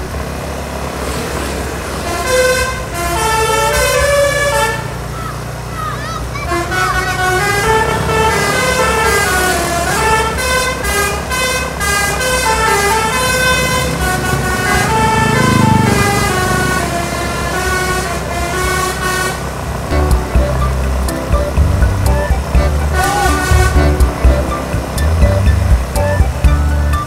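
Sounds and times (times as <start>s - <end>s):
multi-tone bus horn playing a tune: 1.8s - 5.5s, 6.3s - 27.0s.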